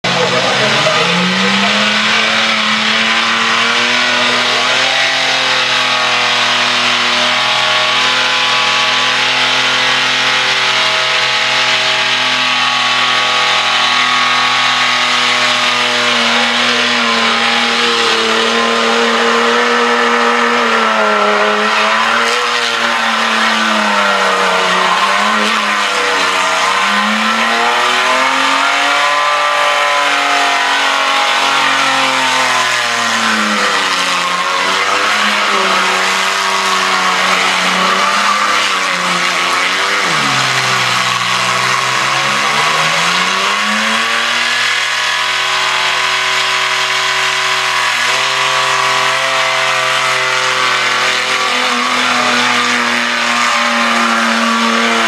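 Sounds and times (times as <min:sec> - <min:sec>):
truck engine revving: 0:00.0 - 0:55.0
tyres squealing: 0:00.0 - 0:55.0.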